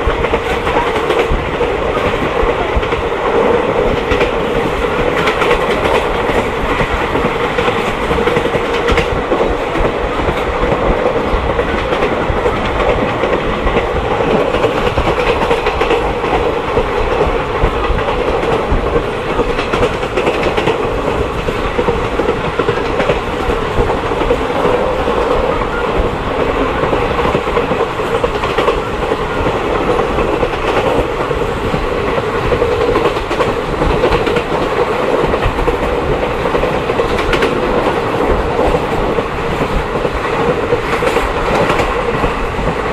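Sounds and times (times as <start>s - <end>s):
train rumbling on rails: 0.0s - 42.9s
wheels clicking over rail joints: 0.0s - 42.9s.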